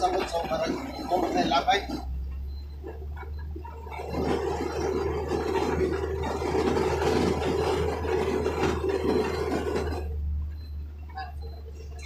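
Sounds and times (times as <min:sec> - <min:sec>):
loose rattling and scraping: 0:00.0 - 0:12.0
truck engine humming: 0:00.0 - 0:12.0.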